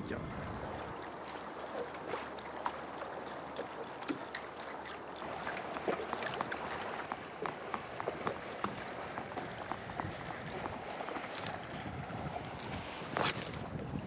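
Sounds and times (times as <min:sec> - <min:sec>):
waves lapping against a boat hull: 0:00.0 - 0:14.0.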